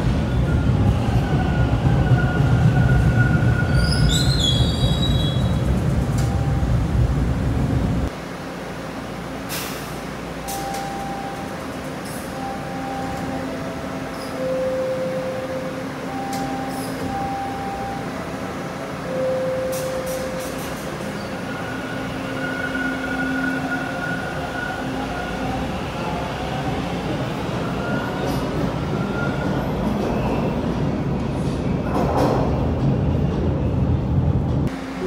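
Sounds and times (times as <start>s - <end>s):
subway train motor whine: 0.0s - 30.9s.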